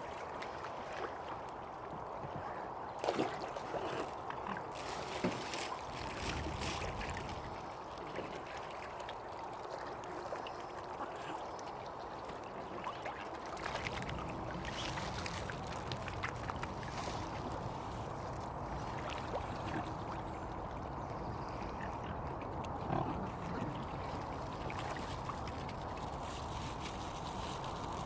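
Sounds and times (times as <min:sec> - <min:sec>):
small water splashes: 0:00.0 - 0:28.0
water lapping and trickling: 0:00.0 - 0:28.0.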